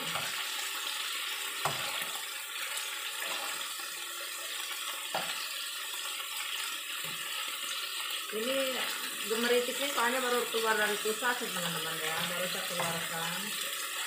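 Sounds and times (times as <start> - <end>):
shrimp sizzling in oil: 0.0 - 14.0.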